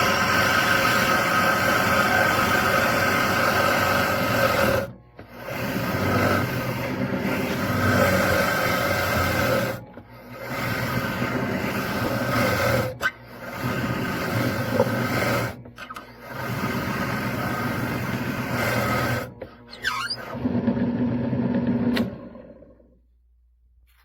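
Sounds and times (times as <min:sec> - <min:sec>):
electric drill boring into wood: 0:00.0 - 0:21.0.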